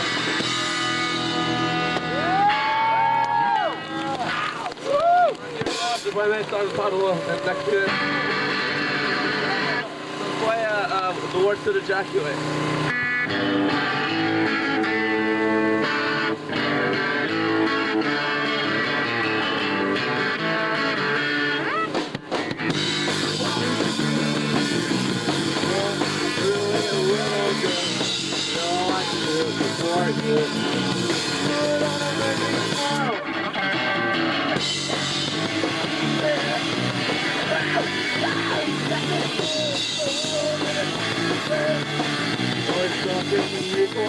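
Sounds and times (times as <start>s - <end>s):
bass guitar: 0.0s - 44.0s
drum kit: 0.0s - 44.0s
electric guitar: 0.0s - 44.0s.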